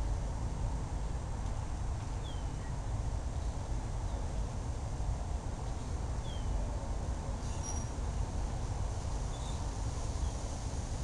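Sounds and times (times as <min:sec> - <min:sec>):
ceiling fan whirring: 0:00.0 - 0:11.0.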